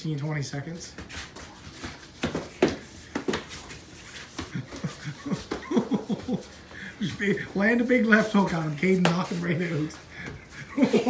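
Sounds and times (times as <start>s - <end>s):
scuffling: 0.8s - 10.6s.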